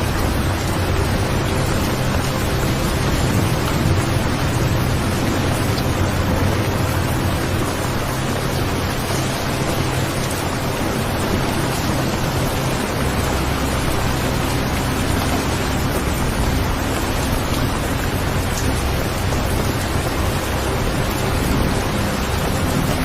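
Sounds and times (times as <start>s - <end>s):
low rumble: 0.0s - 23.0s
recorded rain: 0.0s - 23.0s.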